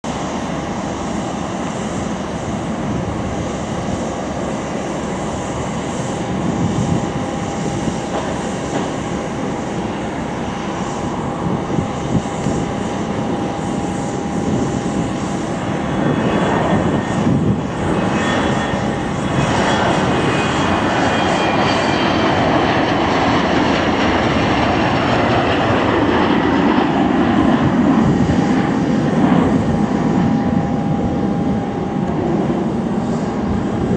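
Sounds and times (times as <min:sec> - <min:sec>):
high engine whine: 0:00.1 - 0:33.9
jet engines spooling up: 0:00.1 - 0:33.9.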